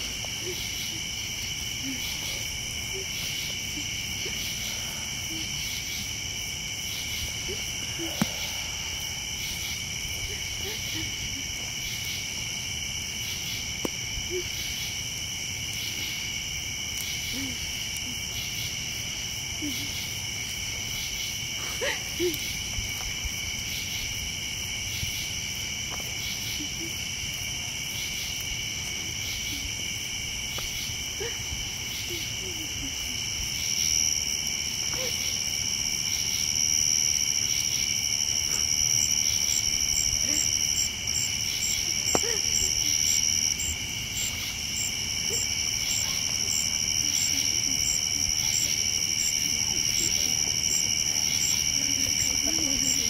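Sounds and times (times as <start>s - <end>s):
crickets and katydids trilling: 0.0s - 53.0s
rhythmic pulsing insect call: 0.0s - 53.0s.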